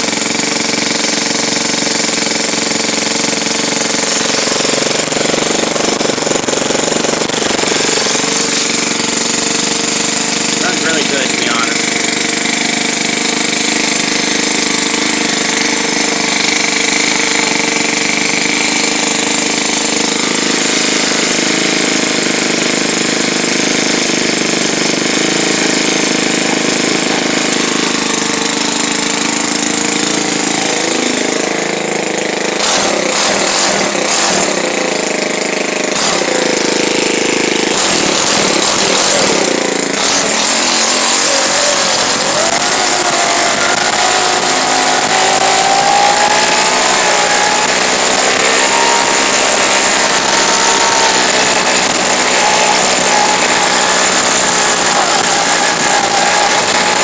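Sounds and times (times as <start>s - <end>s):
string trimmer engine running loud: 0.0s - 57.0s.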